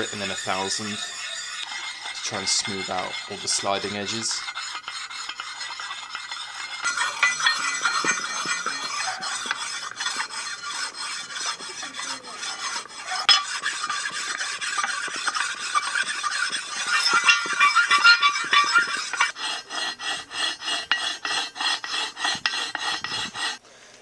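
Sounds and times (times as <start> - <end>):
whetstone scraping metal: 0.0 - 23.6.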